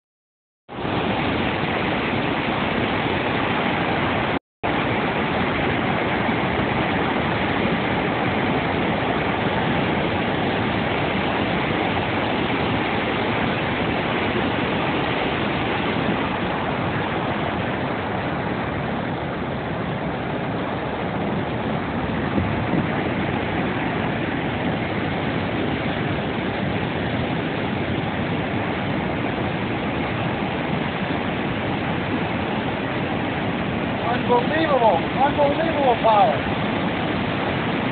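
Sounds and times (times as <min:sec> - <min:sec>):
water rushing from dam gate: 0:00.7 - 0:37.9.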